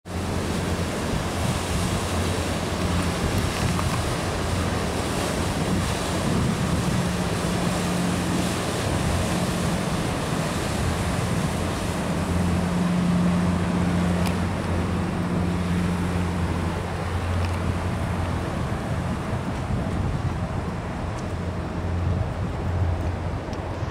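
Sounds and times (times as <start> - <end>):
river water: 0.0 - 23.9
boat engine drone: 0.1 - 23.9
wind noise on microphone: 0.1 - 23.9.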